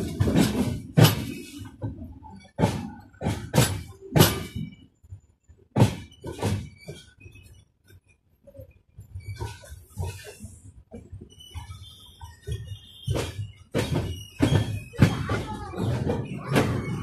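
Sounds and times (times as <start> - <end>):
train wheels clunking over rail joints: 0.0 - 7.5, 9.3 - 17.0.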